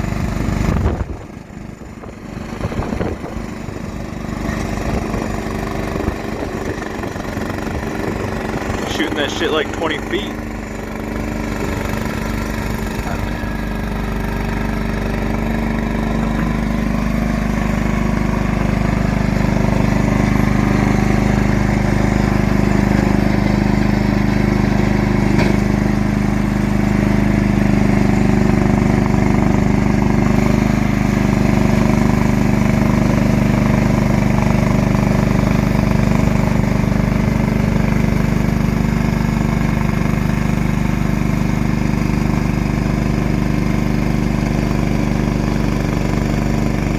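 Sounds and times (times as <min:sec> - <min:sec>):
snowblower engine running: 0:00.0 - 0:46.9.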